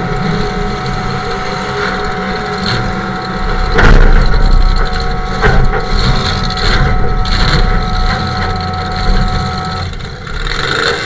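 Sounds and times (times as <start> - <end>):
steady high whine: 0.0 - 11.0
truck engine rumbling with clatter: 0.0 - 11.0.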